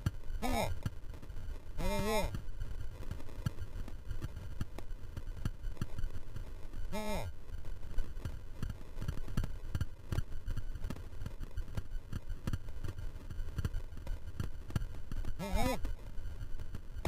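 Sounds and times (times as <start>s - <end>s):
bike tyres rumbling on snow: 0.0s - 17.0s.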